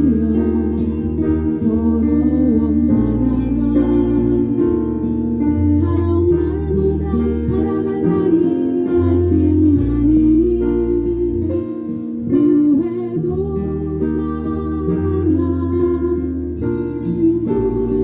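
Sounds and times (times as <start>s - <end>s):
bass line: 0.0s - 18.0s
held melody line: 0.0s - 18.0s
plucked guitar: 0.0s - 18.0s.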